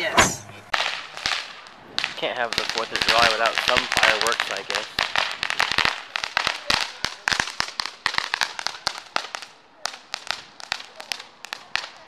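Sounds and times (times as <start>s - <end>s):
fireworks cracking and popping: 0.3s - 12.0s.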